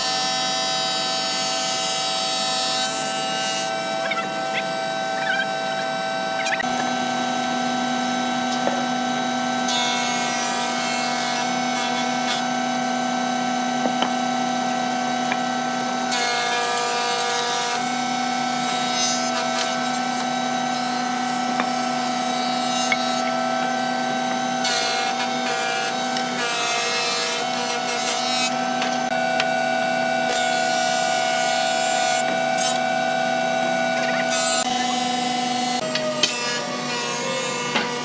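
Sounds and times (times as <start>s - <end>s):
cutter head planing wood: 0.0s - 38.0s
thickness planer humming: 0.3s - 38.0s.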